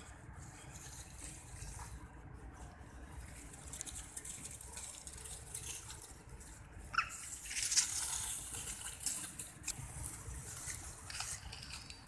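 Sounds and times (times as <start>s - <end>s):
dry leaves rustling and crackling: 0.0s - 12.0s.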